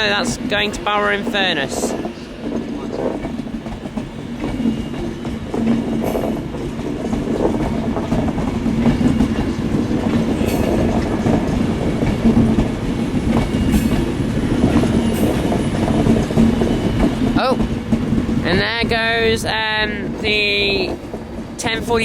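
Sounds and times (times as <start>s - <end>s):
train rumble and hum: 0.0s - 22.0s.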